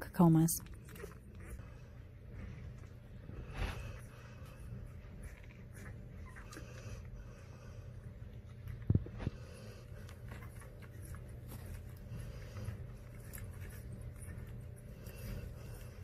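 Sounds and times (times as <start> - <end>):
puppies shuffling and suckling: 0.0 - 16.0
steady low hum: 0.0 - 16.0.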